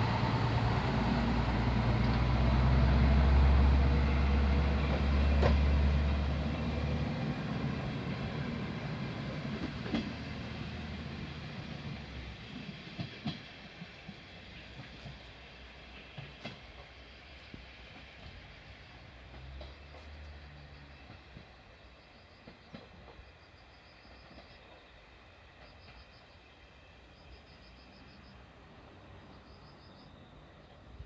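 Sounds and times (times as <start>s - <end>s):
diesel railcar engine rumble: 0.0s - 31.0s.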